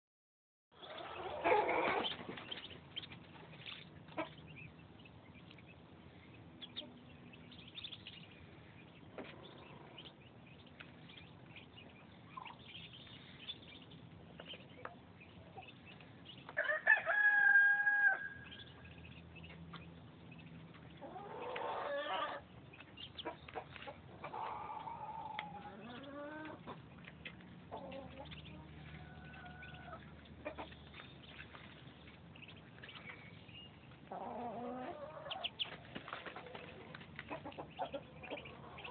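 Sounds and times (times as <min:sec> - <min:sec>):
ducklings peeping: 0:00.8 - 0:38.9.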